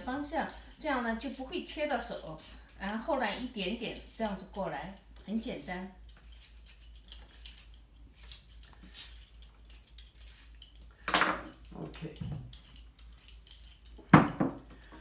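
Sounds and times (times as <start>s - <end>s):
peeler scraping potatoes: 0.0s - 15.0s.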